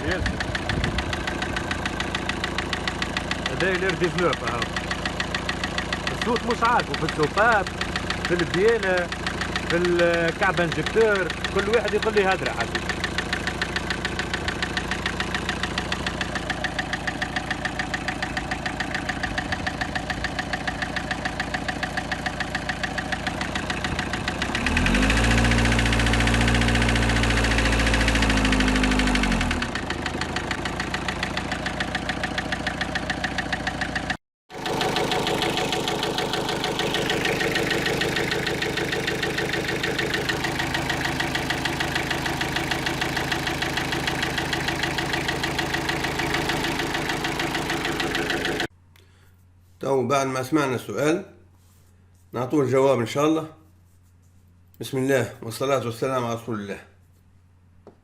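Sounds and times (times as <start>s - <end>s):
car engine idling and revving: 0.0s - 48.7s
rapid engine knocking tick: 0.0s - 48.7s.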